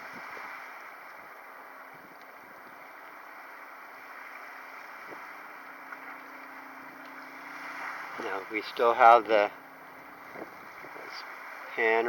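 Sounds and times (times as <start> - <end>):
faint steady hum: 0.0 - 12.0
wind on microphone: 0.0 - 12.0.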